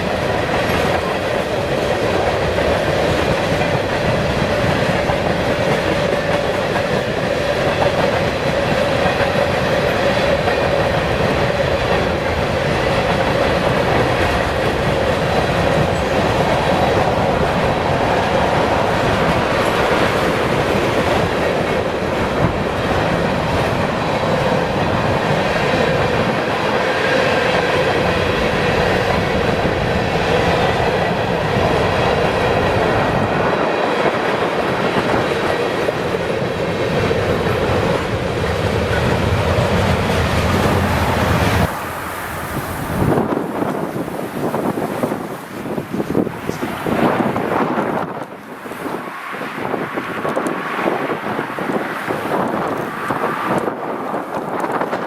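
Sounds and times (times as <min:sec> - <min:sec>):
freight train rumbling on rails: 0:00.0 - 0:55.0.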